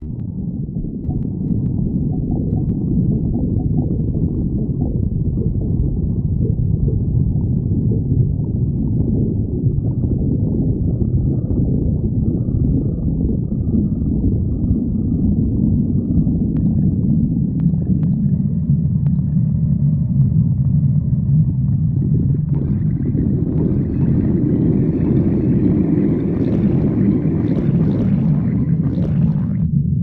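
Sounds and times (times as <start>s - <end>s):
stomach growling: 0.0s - 30.0s.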